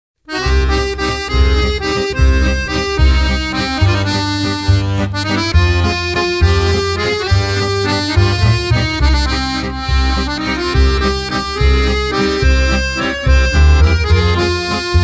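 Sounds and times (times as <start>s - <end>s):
instrumental background music: 0.3s - 15.0s.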